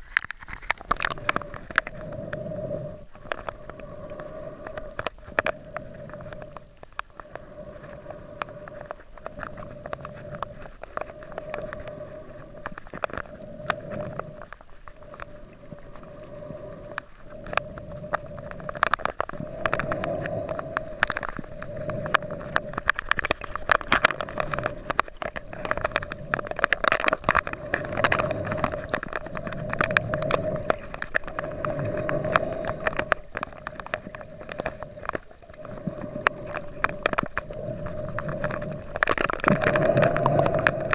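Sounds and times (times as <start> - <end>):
sharp clicks and crackles: 0.0 - 40.9
water swishing underwater: 0.0 - 40.9.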